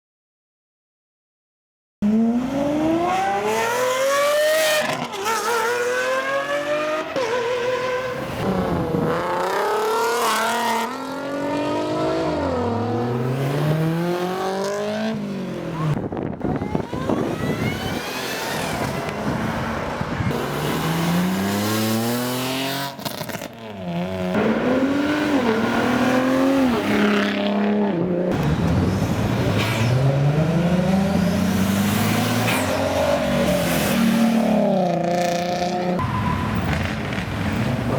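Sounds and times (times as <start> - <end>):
cars accelerating hard: 2.0 - 16.0, 16.6 - 37.9.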